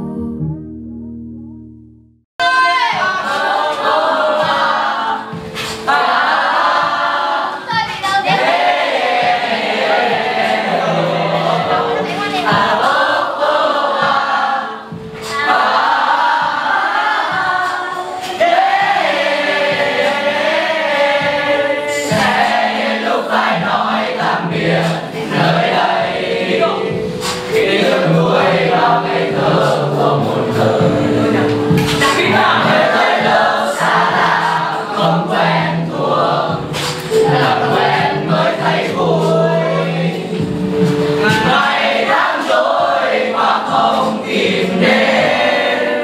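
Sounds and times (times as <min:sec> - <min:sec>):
backing track music: 0:00.0 - 0:46.0
group singing: 0:02.4 - 0:46.0.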